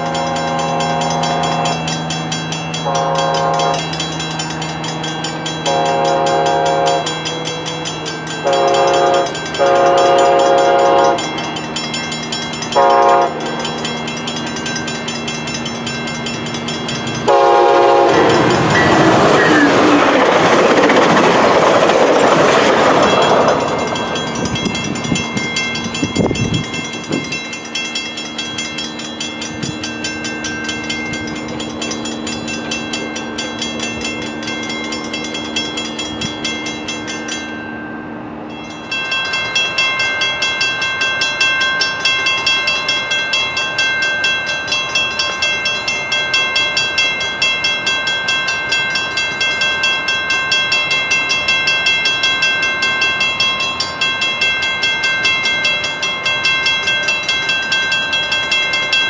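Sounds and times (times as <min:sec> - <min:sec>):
bright crossing bell dinging: 0:00.0 - 0:59.0
crossing warning bells: 0:00.0 - 0:59.0
train cars rushing past: 0:00.0 - 0:59.0.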